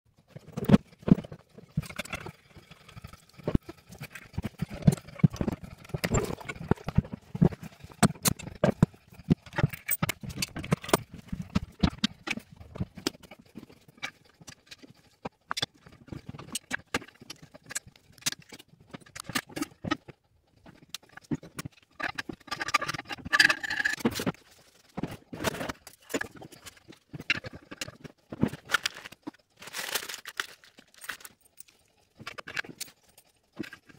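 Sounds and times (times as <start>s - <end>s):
rustling and scraping: 0.2s - 33.9s
clicks and clatter of tools: 0.3s - 33.9s.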